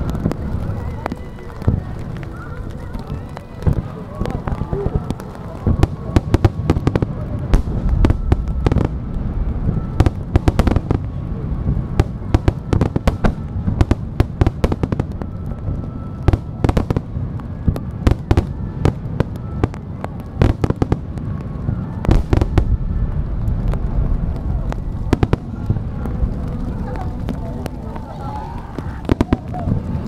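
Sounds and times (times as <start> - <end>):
fireworks sharp bangs: 0.0 - 28.0
low rumble of fireworks: 0.0 - 30.0.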